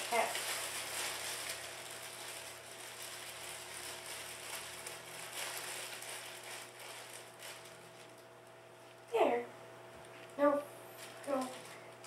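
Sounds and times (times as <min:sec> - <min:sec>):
cellophane crinkling: 0:00.0 - 0:08.6, 0:10.1 - 0:12.0.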